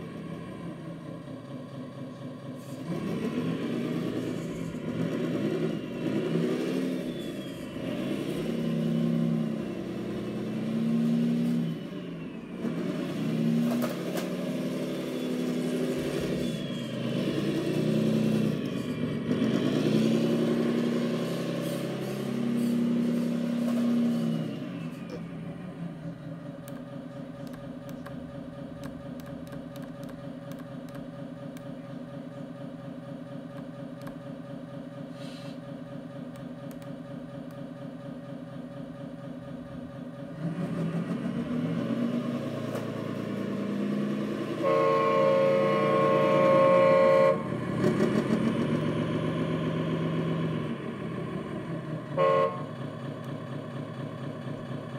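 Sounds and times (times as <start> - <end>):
diesel truck engine revving: 0.0 - 34.2, 38.5 - 54.9.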